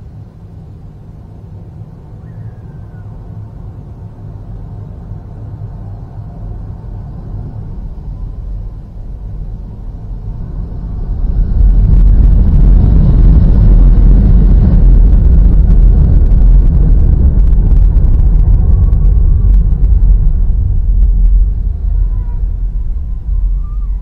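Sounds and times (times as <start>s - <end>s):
jet engines roaring at takeoff: 0.0s - 24.0s.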